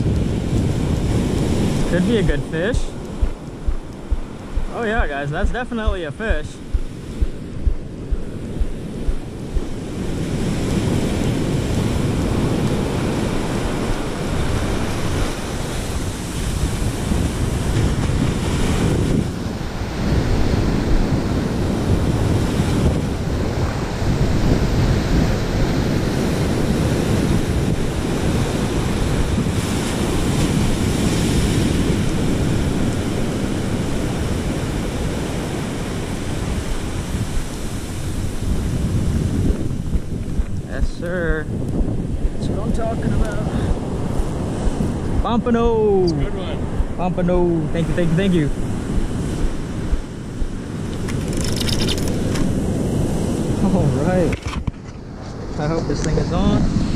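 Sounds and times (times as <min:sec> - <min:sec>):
surf breaking on beach: 0:00.0 - 0:51.1
wind buffeting microphone: 0:00.0 - 0:56.9.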